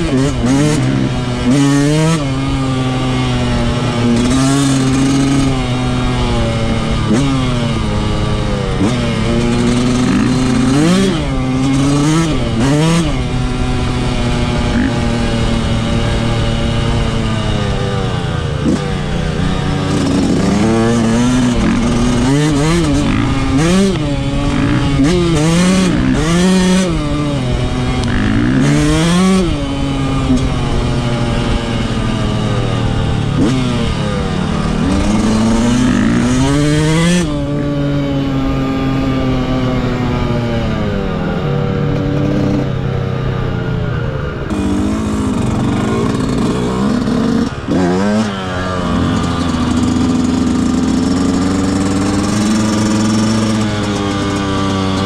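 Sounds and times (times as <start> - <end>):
two-stroke motocross engine revving: 0.0 - 43.8, 44.4 - 55.0.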